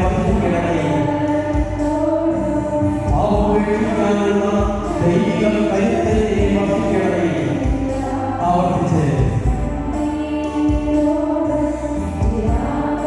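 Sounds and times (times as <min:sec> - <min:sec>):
choir singing: 0:00.0 - 0:13.0
sustained accompaniment: 0:00.0 - 0:13.0.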